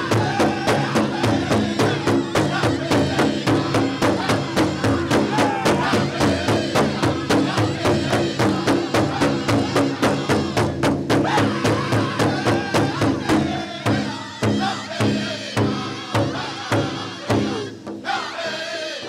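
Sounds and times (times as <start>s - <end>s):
big drum beating: 0.0s - 18.6s
high wavering voices singing: 0.0s - 19.0s.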